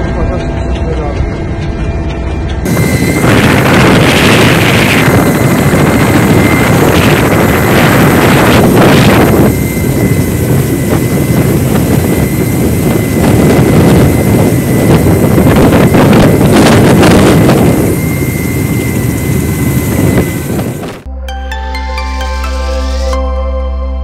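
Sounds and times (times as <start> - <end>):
helicopter rotor and engine: 0.0 - 21.1
thin steady whine: 0.0 - 21.1
wind buffeting microphone: 0.0 - 21.1.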